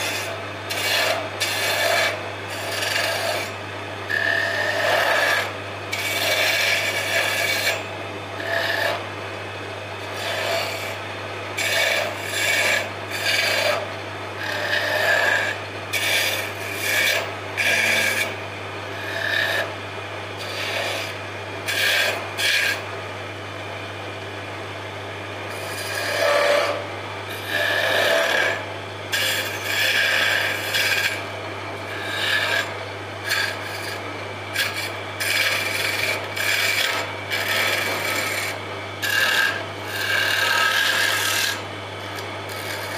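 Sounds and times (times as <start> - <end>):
chisel scraping spinning wood: 0.0 - 24.2, 25.2 - 42.9
wood lathe humming: 0.0 - 42.9.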